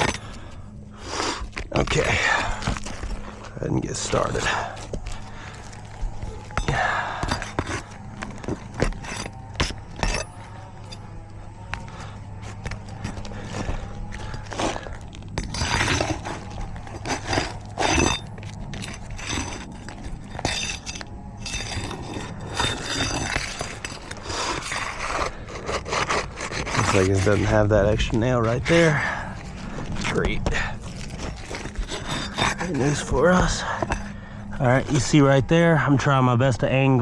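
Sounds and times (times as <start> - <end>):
flat bar scraping shingles: 0.0 - 36.7.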